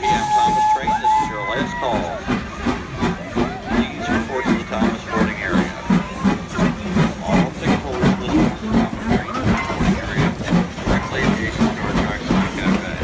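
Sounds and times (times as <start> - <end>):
locomotive rolling past: 0.0 - 13.0.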